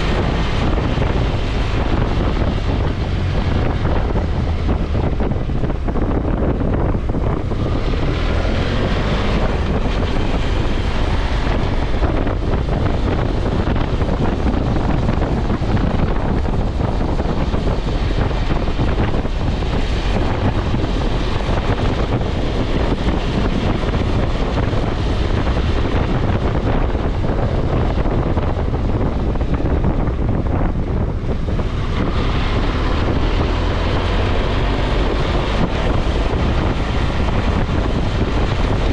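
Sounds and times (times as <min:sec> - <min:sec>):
motorcycle engine: 0:00.0 - 0:38.9
wind rushing on microphone: 0:00.0 - 0:38.9.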